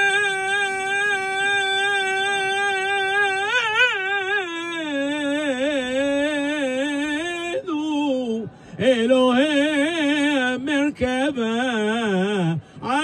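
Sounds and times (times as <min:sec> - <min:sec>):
man singing solo with vibrato: 0:00.0 - 0:13.0.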